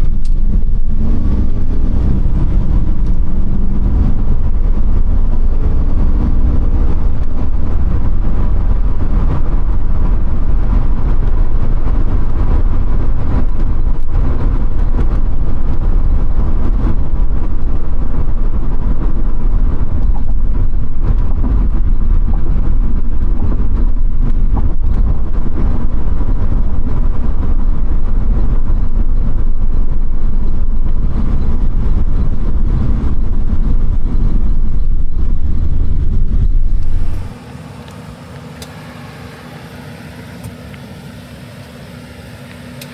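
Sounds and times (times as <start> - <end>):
car engine rumbling: 0.0 - 42.9
road noise: 0.0 - 42.9.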